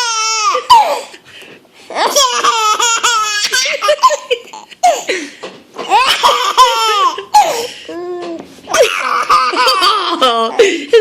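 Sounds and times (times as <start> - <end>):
baby laughing: 0.0 - 1.2, 1.9 - 5.1, 5.8 - 11.0.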